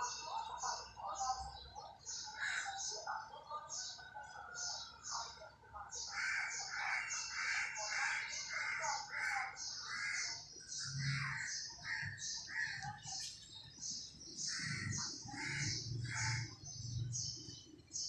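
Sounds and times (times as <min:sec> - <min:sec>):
birds rasping calls: 0:00.0 - 0:18.0.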